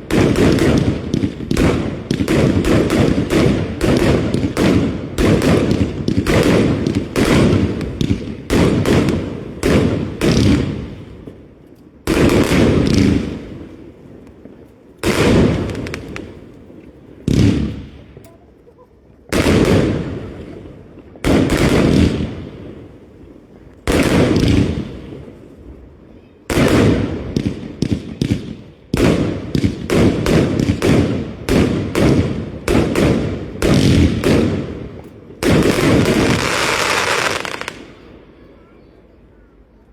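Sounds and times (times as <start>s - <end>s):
fireworks exploding: 0.0s - 38.4s.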